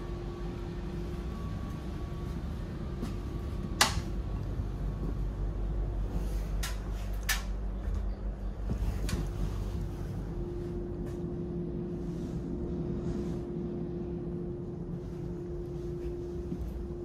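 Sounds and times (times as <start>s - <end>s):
faint steady whine: 0.0s - 17.0s
train ventilation hum: 0.0s - 17.0s.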